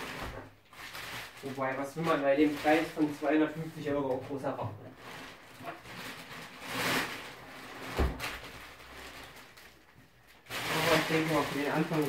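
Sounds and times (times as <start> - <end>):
plastic wrap rustling: 0.0 - 12.0.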